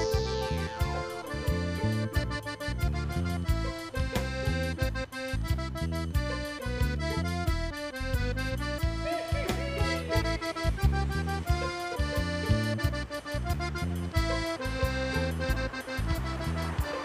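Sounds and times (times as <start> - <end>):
melody of sustained notes: 0.0 - 17.0
rhythmic bass line: 0.0 - 17.0.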